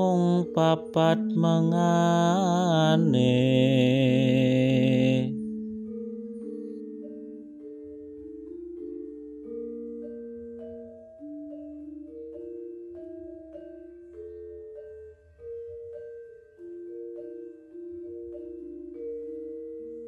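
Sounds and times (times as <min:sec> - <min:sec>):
metal notes struck with mallets: 0:00.0 - 0:20.0.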